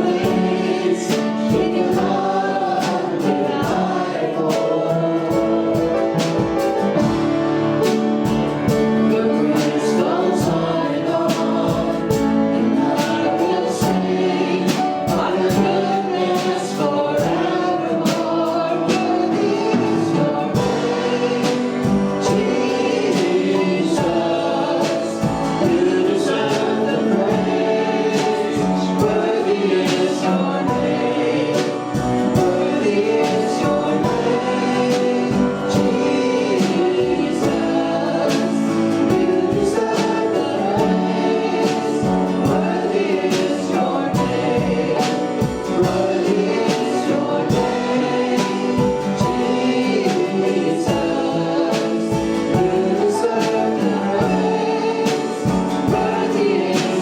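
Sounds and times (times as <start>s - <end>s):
full band playing: 0.0s - 57.0s
group singing worship song: 0.0s - 57.0s.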